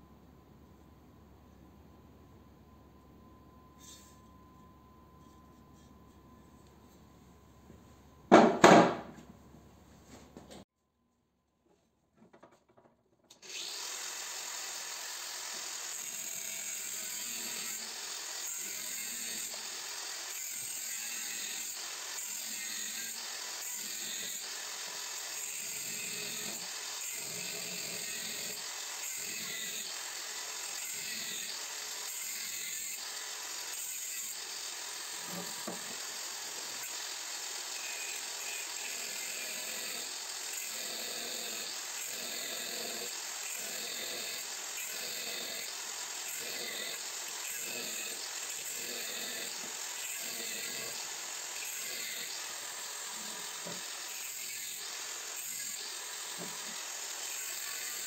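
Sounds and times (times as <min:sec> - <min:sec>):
angle grinder cutting steel: 0:03.8 - 0:06.7, 0:13.4 - 0:58.0.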